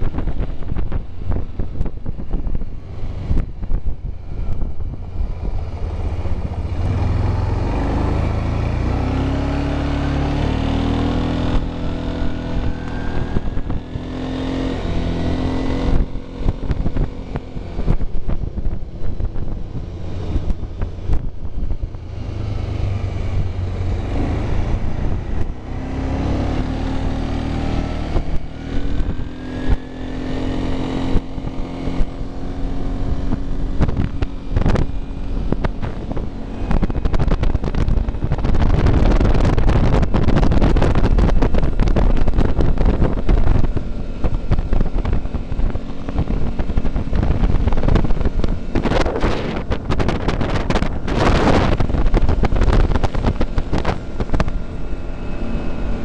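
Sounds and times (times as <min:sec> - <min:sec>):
atv engine running: 0:00.0 - 0:56.0
wind on microphone: 0:00.0 - 0:56.0.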